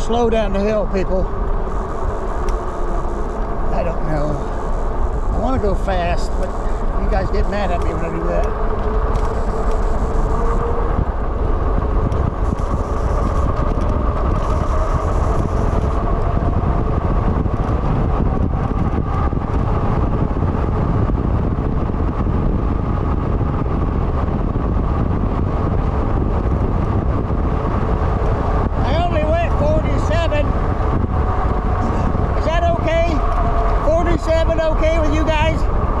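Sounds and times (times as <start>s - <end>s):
bike tyre and drivetrain noise: 0.0s - 36.0s
wind rushing on microphone: 0.0s - 36.0s.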